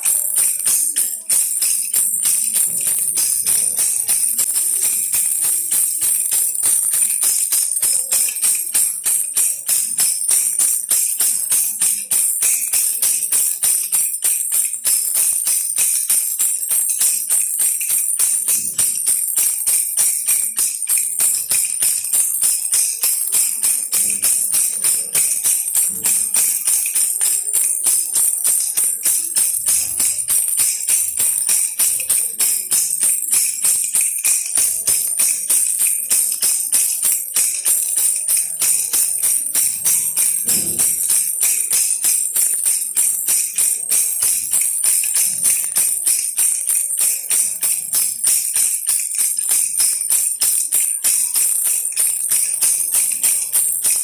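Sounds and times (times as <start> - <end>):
baby rattle shaken: 0.0 - 54.0.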